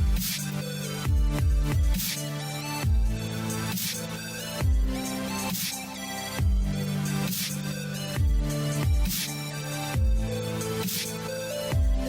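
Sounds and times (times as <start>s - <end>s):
dubstep music: 0.0s - 12.0s.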